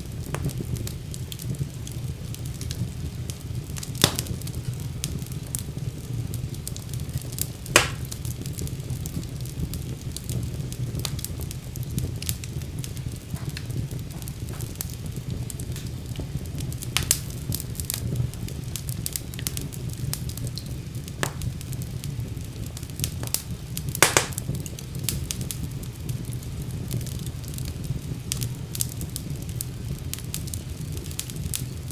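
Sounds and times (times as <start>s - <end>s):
fire crackling in fireplace: 0.0s - 31.9s
sharp popping of fire: 0.0s - 31.9s.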